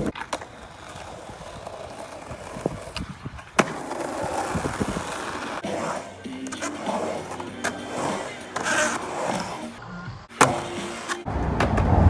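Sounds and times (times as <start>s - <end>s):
skateboard cracking: 0.0s - 9.8s
skateboard wheels rolling on pavement: 0.0s - 12.0s.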